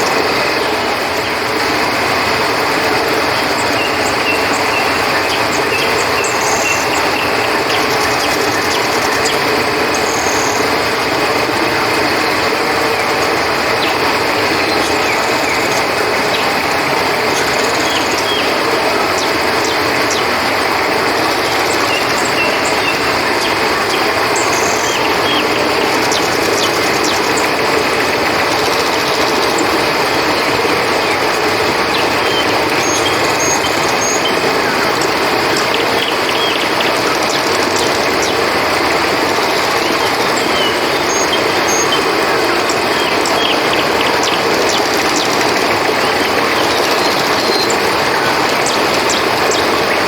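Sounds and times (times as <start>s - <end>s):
crickets chirping: 0.0s - 50.0s
river water rushing: 0.0s - 50.0s.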